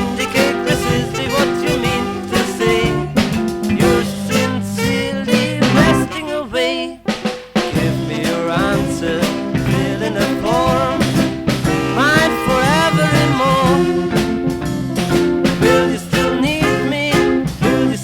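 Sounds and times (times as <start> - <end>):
beat band playing: 0.0 - 18.0
organ chords: 0.0 - 18.0.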